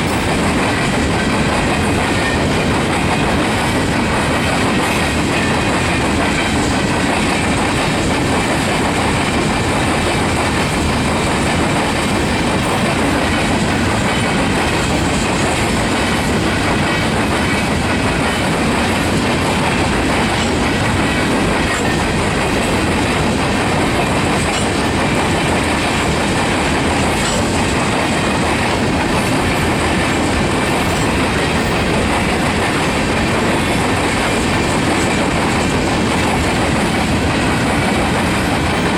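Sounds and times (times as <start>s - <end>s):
train cars rolling past: 0.0s - 38.9s
wheels clacking over rail joints: 0.0s - 38.9s.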